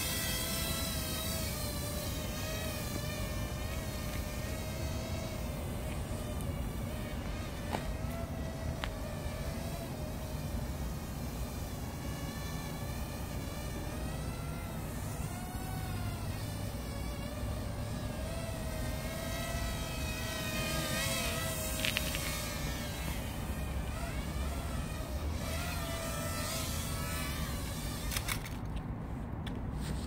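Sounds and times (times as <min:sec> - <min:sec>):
drone propellers whining: 0:00.0 - 0:28.7.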